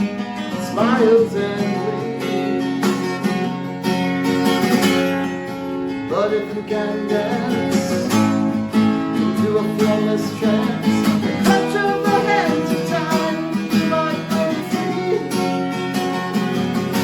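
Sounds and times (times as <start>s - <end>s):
acoustic guitar strummed and picked: 0.0s - 17.0s.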